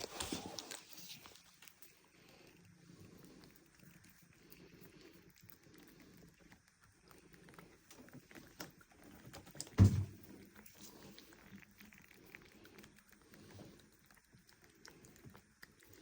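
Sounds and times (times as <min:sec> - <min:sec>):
faint clicks and ticks: 0:00.0 - 0:16.0.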